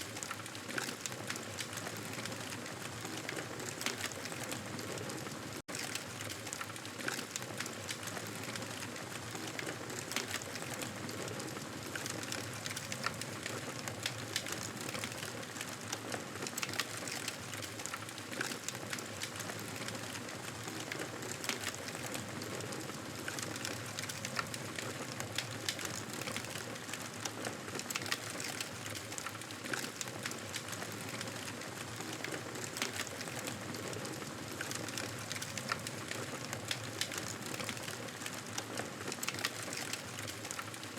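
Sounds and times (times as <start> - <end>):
campfire crackling: 5.8 - 40.9.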